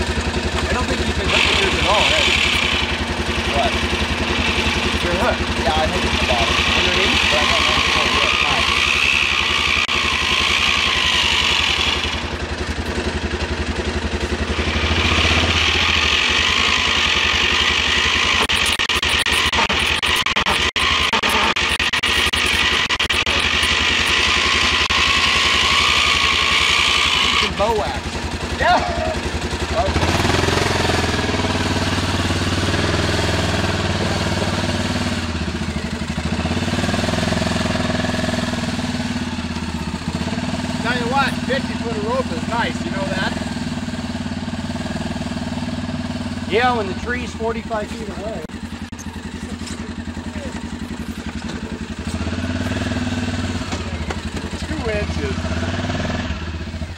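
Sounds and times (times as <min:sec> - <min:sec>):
atv engine idling: 0:00.0 - 0:18.5, 0:22.6 - 0:56.9.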